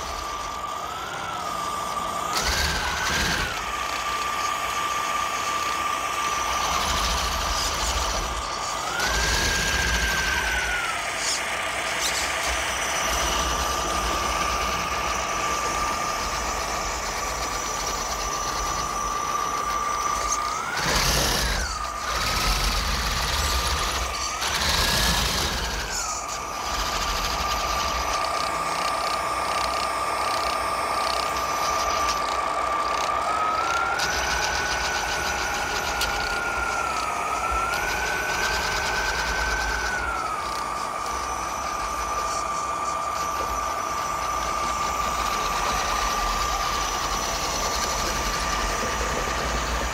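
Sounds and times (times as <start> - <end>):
rc truck motor whine: 0.0 - 49.9.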